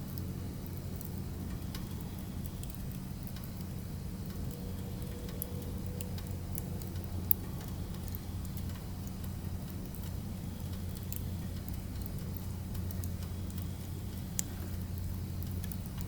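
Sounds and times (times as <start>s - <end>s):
firewood crackling and popping: 0.0s - 16.0s
steady low hum: 0.0s - 16.0s.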